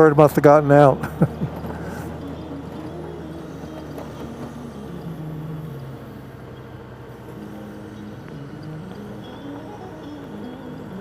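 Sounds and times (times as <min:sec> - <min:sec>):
road and wind noise: 0:00.0 - 0:11.0
motorcycle engine running: 0:00.6 - 0:11.0.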